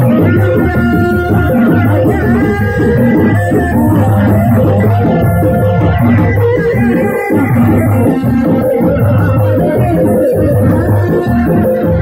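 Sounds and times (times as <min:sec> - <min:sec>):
hand-beaten drums: 0:00.0 - 0:12.0
held melodic line: 0:00.0 - 0:12.0.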